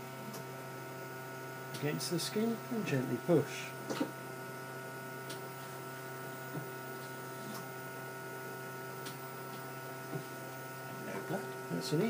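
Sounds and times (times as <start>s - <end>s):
machine humming with pump: 0.0s - 12.0s.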